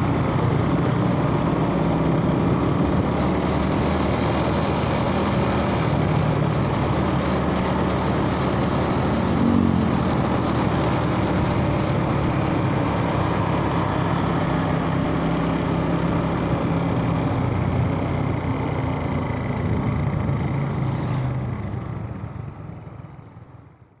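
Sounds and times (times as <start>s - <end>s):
motorcycle engine running: 0.0s - 23.8s
road and traffic noise: 0.0s - 24.0s.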